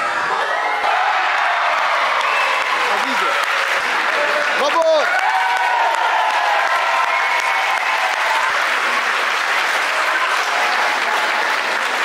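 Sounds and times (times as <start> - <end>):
crowd applauding in a hall: 0.8 - 12.0.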